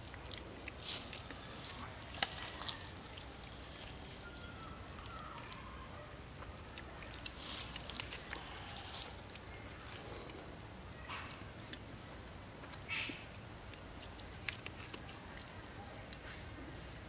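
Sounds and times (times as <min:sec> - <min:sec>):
raw meat torn and chewed: 0:00.0 - 0:11.9, 0:12.6 - 0:17.0
steady background hiss: 0:00.0 - 0:17.0.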